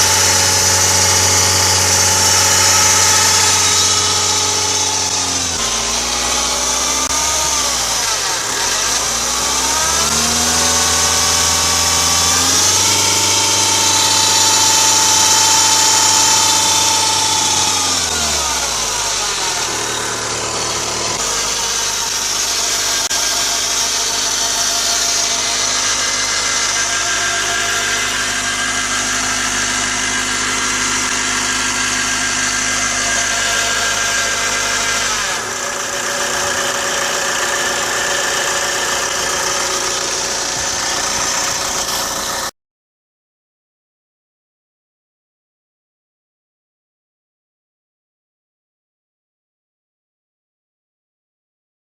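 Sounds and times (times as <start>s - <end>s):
diesel engine revving and idling: 0.0s - 42.5s.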